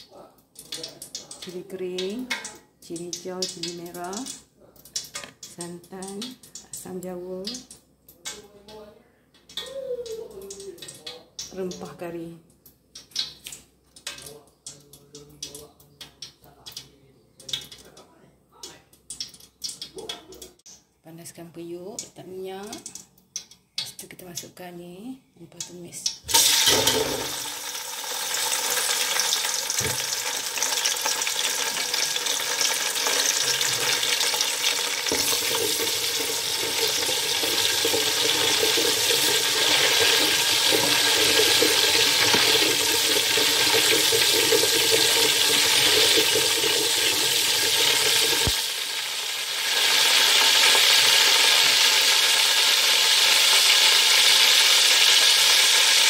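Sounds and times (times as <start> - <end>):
spices sizzling in hot oil: 0.0 - 8.4, 10.4 - 14.8, 19.0 - 24.5, 25.6 - 56.0.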